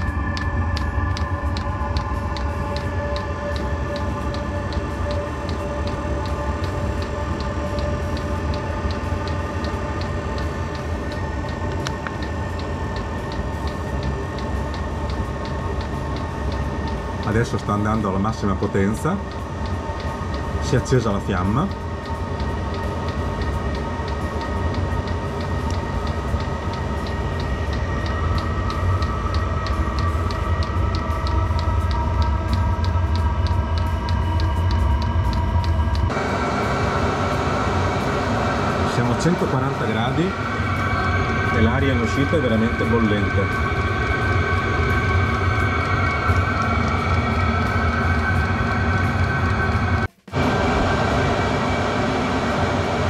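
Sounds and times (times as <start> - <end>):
combustion rumble: 0.0 - 53.0
heater fan whirring: 0.0 - 53.0.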